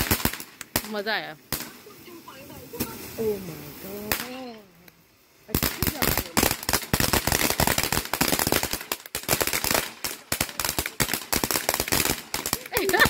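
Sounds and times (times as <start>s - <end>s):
firecrackers banging: 0.0s - 3.3s, 4.0s - 4.5s, 5.5s - 13.0s.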